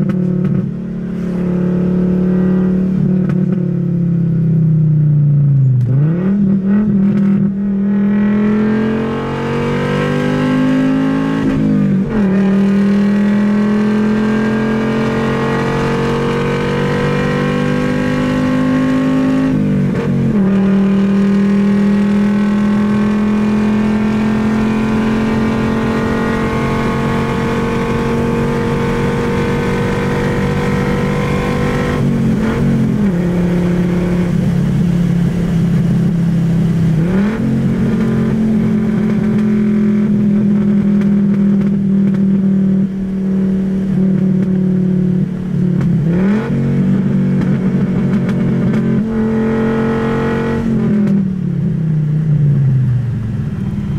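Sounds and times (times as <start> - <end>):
car engine droning from inside cabin: 0.0 - 53.9.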